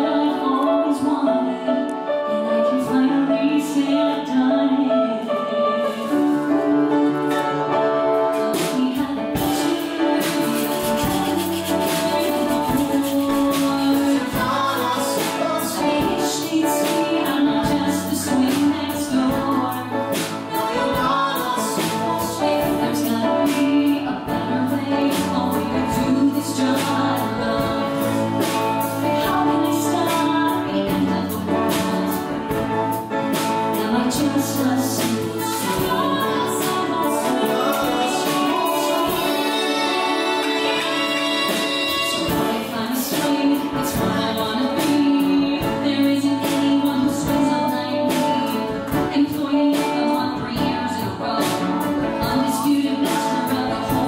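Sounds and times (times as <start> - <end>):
electric guitar: 0.0 - 54.0
piano: 0.0 - 54.0
drums: 5.2 - 54.0
woman singing show tune: 8.3 - 32.6, 33.5 - 54.0.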